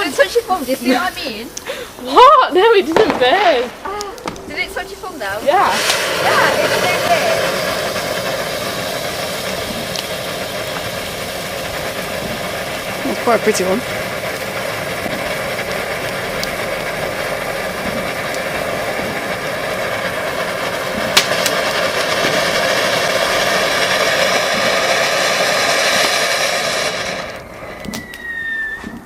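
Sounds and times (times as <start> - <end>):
fountain firework hissing: 0.0 - 29.0
sharp crack: 1.5 - 29.0.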